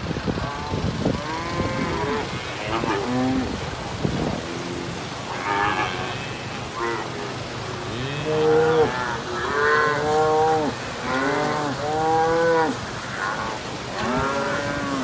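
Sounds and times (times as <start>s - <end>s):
cattle mooing: 0.4s - 3.6s, 5.3s - 7.1s, 7.9s - 15.0s.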